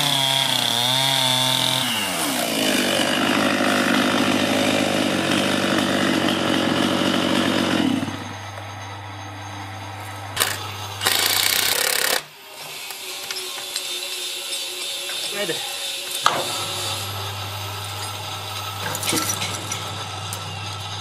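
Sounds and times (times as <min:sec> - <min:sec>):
chainsaw running: 0:00.0 - 0:08.6, 0:10.3 - 0:13.4, 0:14.8 - 0:21.0.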